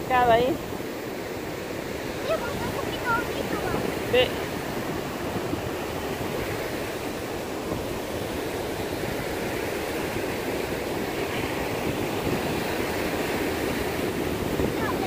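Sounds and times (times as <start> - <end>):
sea surf on a sandy beach: 0.0 - 15.0.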